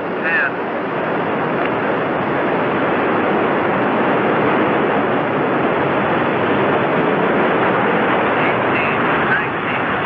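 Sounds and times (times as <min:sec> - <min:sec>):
rocket engines roaring: 0:00.0 - 0:10.0.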